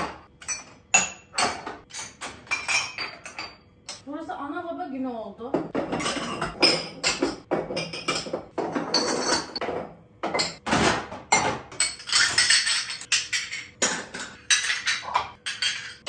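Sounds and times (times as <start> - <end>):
dishes and glasses clinking: 0.0 - 4.0, 5.6 - 16.0.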